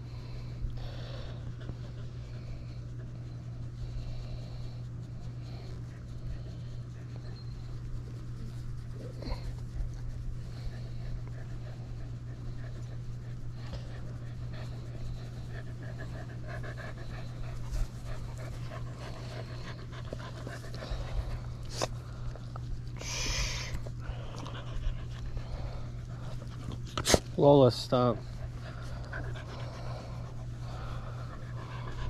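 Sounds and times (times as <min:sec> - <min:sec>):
constant low hum: 0:00.0 - 0:32.0
dogs panting: 0:00.0 - 0:32.0.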